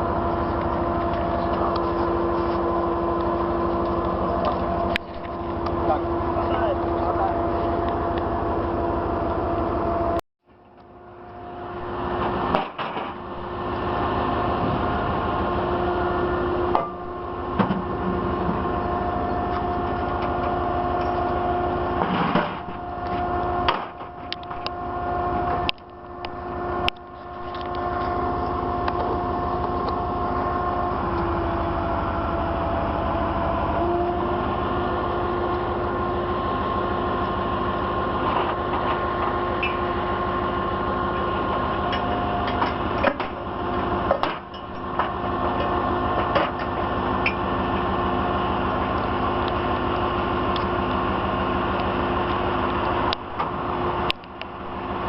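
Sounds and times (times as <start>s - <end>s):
constant whine: 0.0s - 55.0s
tow truck machine hum: 0.0s - 55.0s.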